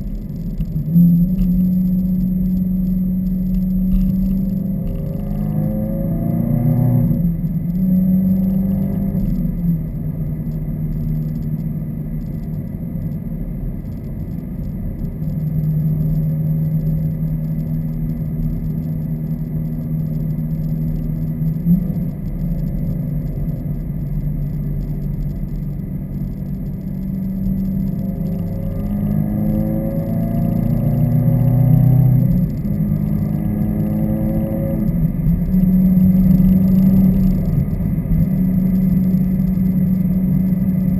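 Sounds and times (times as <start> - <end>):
car engine exhaust rumble: 0.0 - 40.9.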